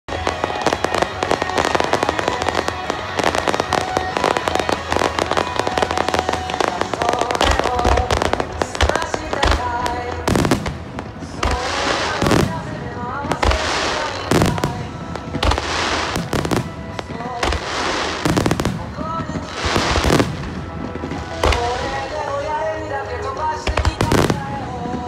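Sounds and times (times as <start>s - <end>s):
fireworks crackling: 0.1s - 25.0s
music: 0.1s - 25.0s.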